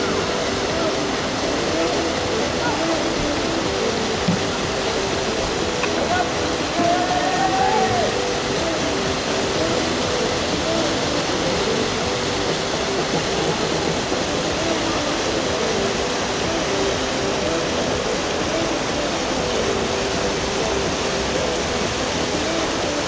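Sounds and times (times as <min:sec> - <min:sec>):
whitewater rapids rushing: 0:00.0 - 0:23.0.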